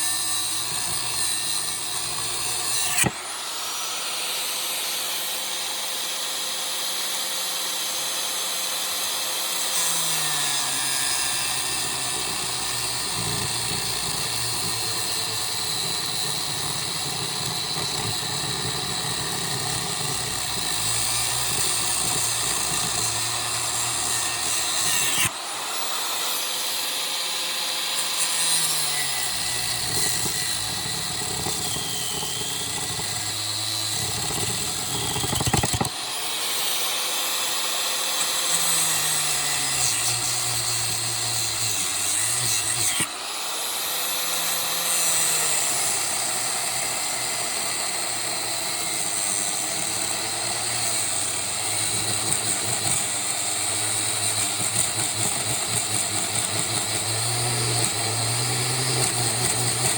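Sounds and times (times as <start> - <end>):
angle grinder cutting metal: 0.0 - 59.9.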